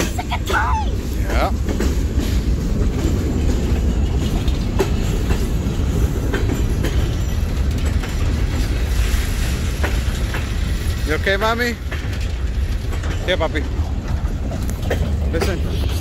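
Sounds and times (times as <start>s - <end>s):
freight train wheels rumbling: 0.0s - 16.0s
sharp clicks of train: 0.0s - 16.0s.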